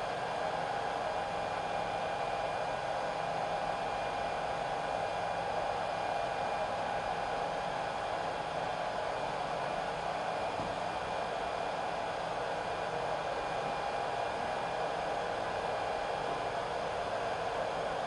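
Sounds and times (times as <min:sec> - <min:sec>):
faint steady whine: 0:00.0 - 0:18.0.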